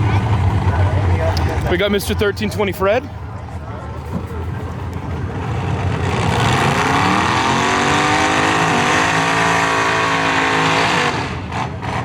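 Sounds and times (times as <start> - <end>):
truck engines accelerating: 0.0 - 12.0.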